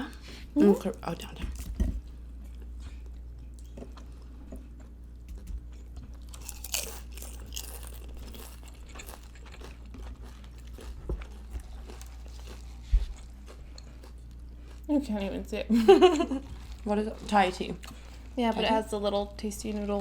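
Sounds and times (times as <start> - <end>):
steady low hum: 0.0 - 20.0
chewing food with crunches: 1.5 - 15.3, 16.3 - 18.6.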